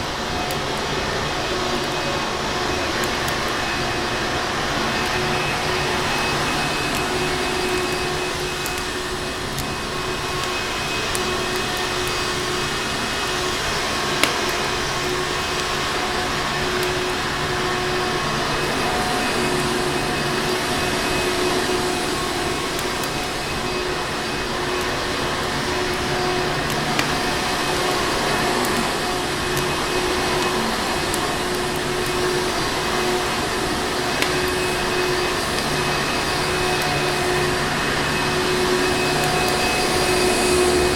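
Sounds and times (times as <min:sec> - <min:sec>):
vacuum cleaner motor whining: 0:00.0 - 0:40.9.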